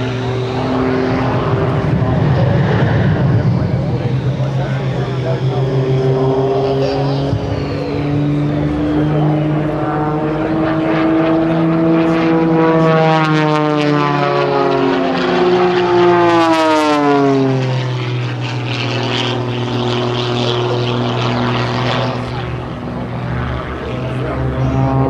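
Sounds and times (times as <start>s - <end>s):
propeller planes flying past: 0.0s - 25.0s.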